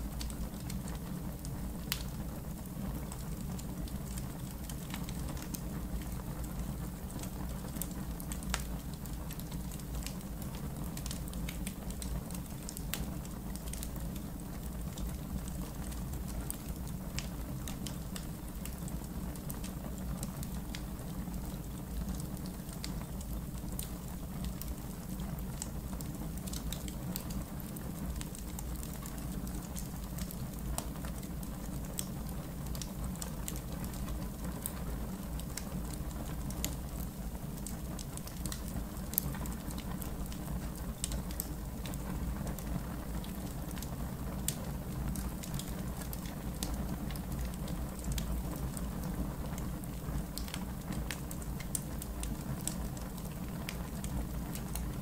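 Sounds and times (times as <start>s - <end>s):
campfire crackling and popping: 0.1s - 55.0s.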